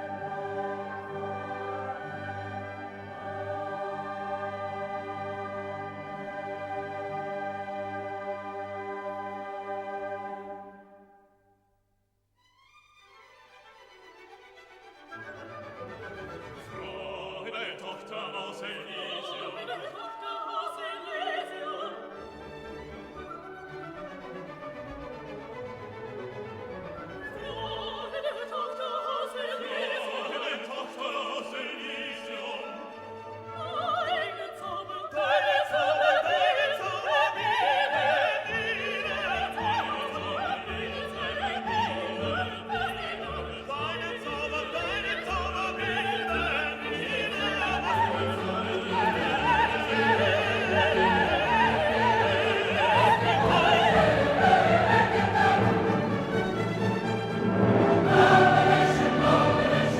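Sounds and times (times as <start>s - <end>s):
operatic singing: 0.0s - 11.0s, 15.3s - 59.9s
orchestra playing: 0.0s - 11.2s, 12.6s - 19.8s, 20.5s - 28.5s, 30.4s - 59.9s.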